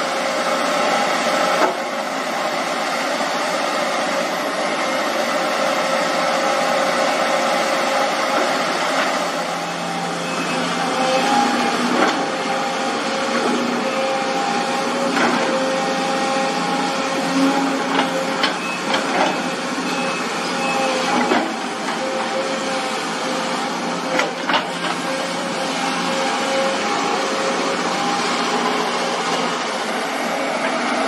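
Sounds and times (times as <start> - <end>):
excavator whining hum: 0.0 - 31.0.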